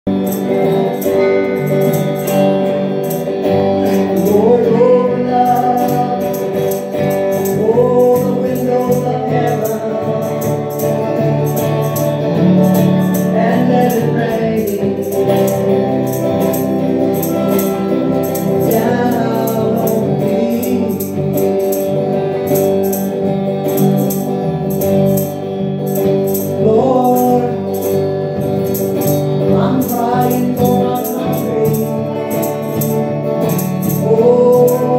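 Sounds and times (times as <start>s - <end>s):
electric guitar: 0.0s - 34.9s
instrumental backing: 0.1s - 34.9s
rattling beat: 0.1s - 34.9s.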